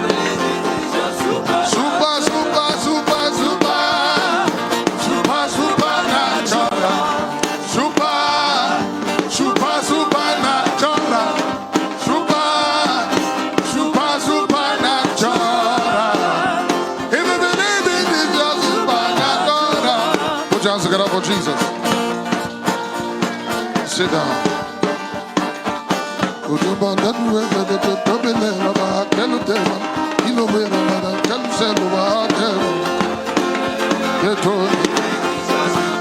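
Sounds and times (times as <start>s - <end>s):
band playing gospel music: 0.0s - 36.0s
people singing: 0.0s - 36.0s.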